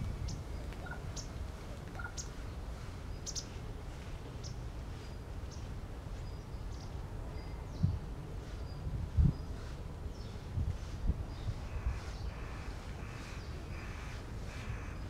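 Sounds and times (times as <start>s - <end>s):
songbirds calling: 0.0s - 15.0s.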